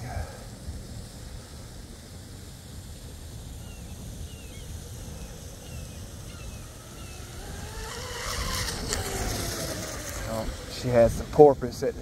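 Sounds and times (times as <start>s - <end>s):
wind rumble on microphone: 0.0s - 12.0s
electric boat motor whine: 2.0s - 12.0s.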